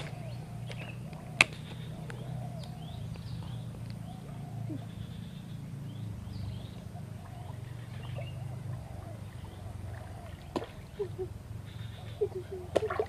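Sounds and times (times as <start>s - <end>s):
birds chirping and whistling: 0.0s - 13.0s
steady low hum: 0.0s - 13.0s.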